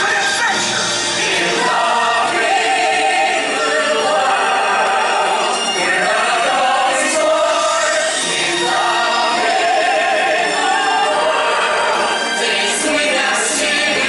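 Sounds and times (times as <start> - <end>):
musical accompaniment: 0.0 - 14.0
voices singing together: 0.0 - 14.0.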